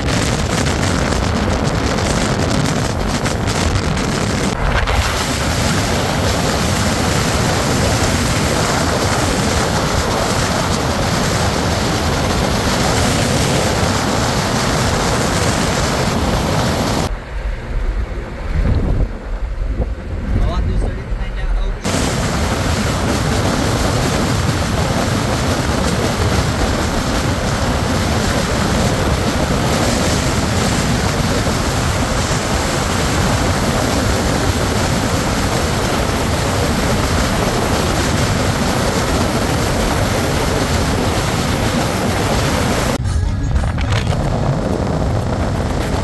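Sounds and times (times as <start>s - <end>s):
moving vehicle rushing rumble: 0.0s - 46.0s.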